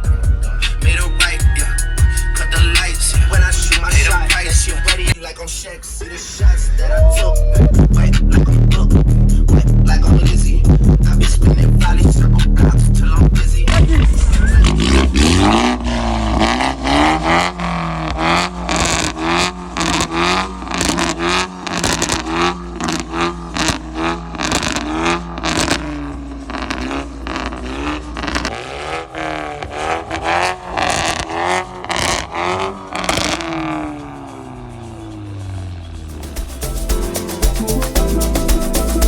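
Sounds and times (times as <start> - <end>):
car engine revving: 0.0 - 5.2, 5.9 - 36.9
exhaust cracks: 0.0 - 39.0.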